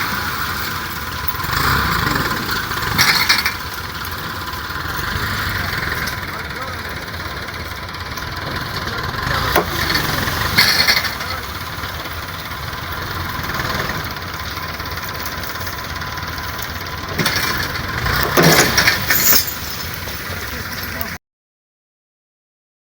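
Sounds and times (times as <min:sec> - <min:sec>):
tractor engine running: 0:00.0 - 0:21.2.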